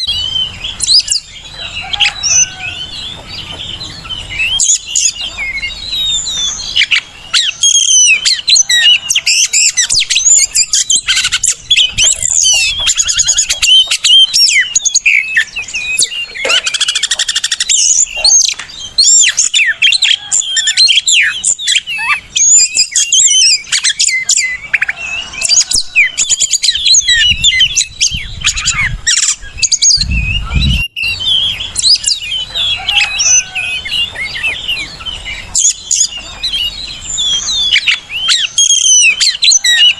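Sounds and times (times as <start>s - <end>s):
bird whistling and chirping: 0.0s - 39.9s.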